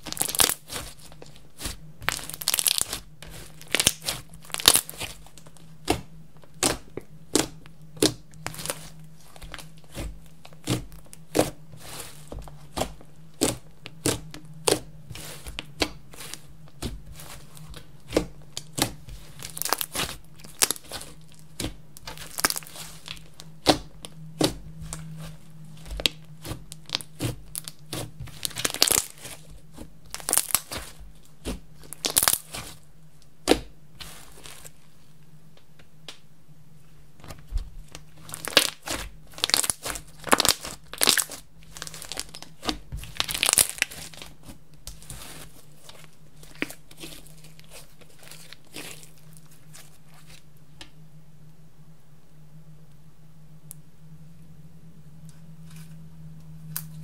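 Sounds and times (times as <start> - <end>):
slime squelching: 0.0 - 35.0, 37.2 - 50.5.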